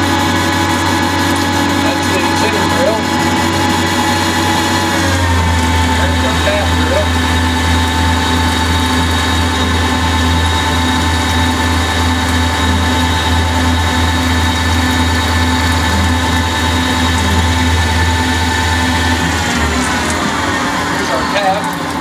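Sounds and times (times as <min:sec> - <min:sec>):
high-pitched machine whines: 0:00.0 - 0:22.0
lathe machine hum: 0:00.0 - 0:22.0.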